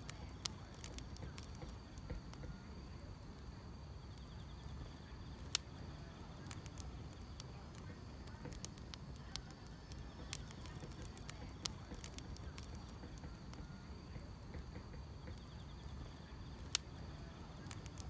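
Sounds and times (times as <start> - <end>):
crickets chirring: 0.0 - 18.0
firewood crackling and popping: 0.0 - 18.0.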